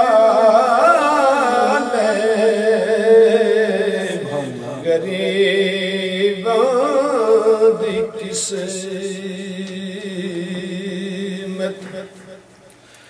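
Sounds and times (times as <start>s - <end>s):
man chanting unaccompanied: 0.0s - 12.5s.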